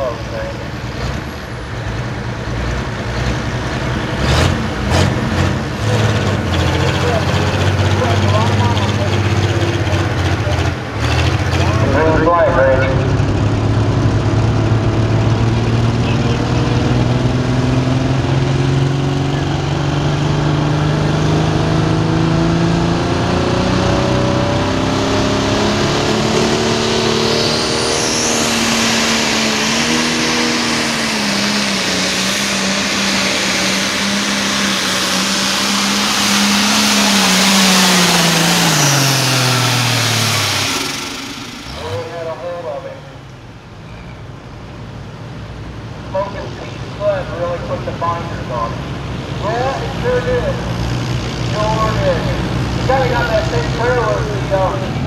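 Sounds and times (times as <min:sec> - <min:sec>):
diesel tractor engine at full load: 0:00.0 - 0:55.0.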